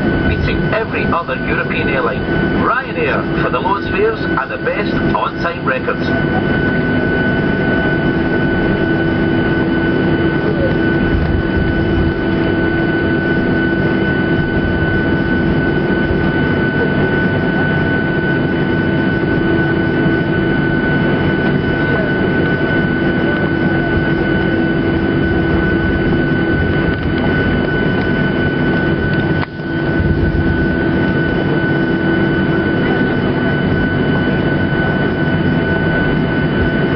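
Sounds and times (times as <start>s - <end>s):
jet engine cabin hum: 0.0s - 36.9s
jet engine high whine: 0.0s - 36.9s.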